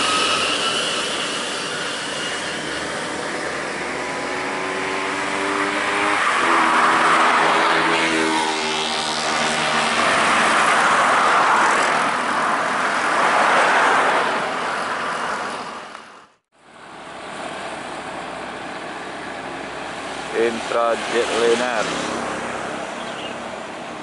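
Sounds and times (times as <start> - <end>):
bus and cars passing close: 0.0 - 24.0
steady traffic noise: 0.0 - 24.0.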